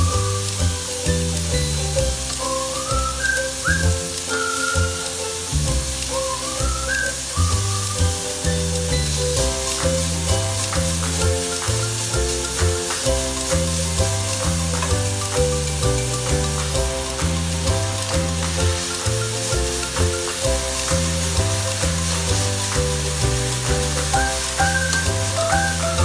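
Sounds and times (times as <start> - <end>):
background music with bass line: 0.0 - 26.0
meat sizzling in a frying pan: 0.0 - 26.0.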